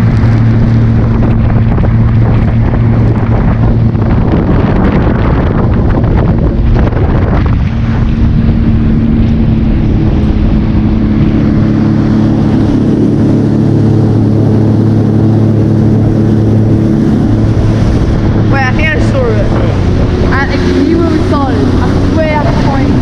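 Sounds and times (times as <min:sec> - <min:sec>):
jet ski engine running: 0:00.0 - 0:23.0
wind buffeting microphone: 0:00.0 - 0:23.0.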